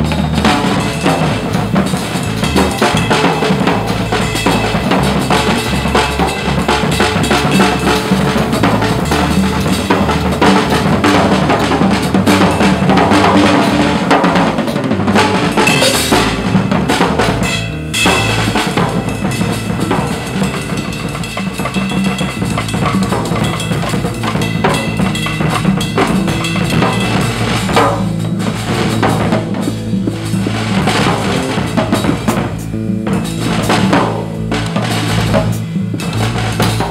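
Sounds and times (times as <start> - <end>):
backing track with bass line: 0.0 - 36.9
drum kit playing: 0.0 - 36.9.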